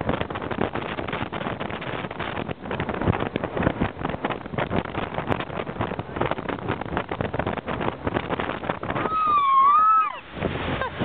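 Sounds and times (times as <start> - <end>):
boat engine: 0.0 - 11.0
rushing water: 0.0 - 11.0
wind buffeting microphone: 0.0 - 11.0.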